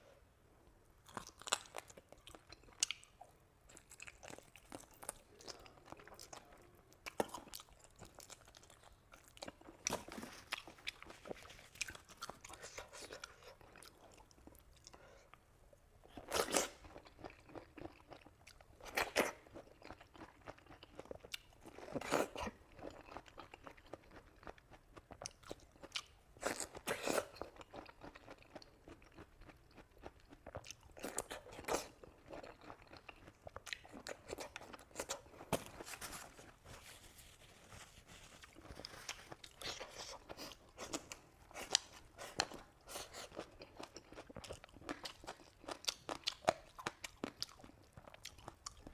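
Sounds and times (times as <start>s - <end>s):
person chewing crunchy food: 1.0s - 15.2s, 16.0s - 48.9s.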